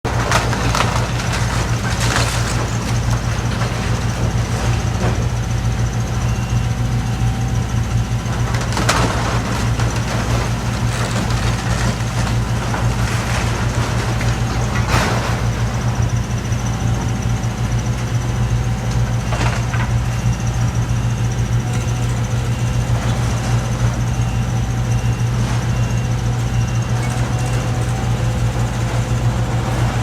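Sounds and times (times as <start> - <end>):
diesel machine running under load: 0.0 - 30.0
debris crashing and scraping: 0.1 - 30.0.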